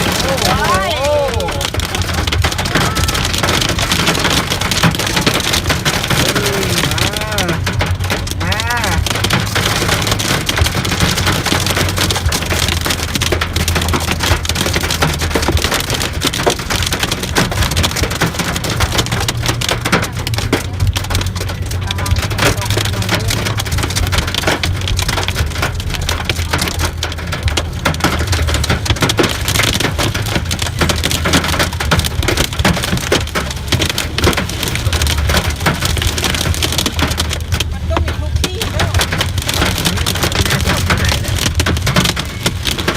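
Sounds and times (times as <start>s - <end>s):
hailstones ticking: 0.0s - 42.9s
heavy rain pelting: 0.0s - 42.9s
low steady rumble: 0.0s - 42.9s.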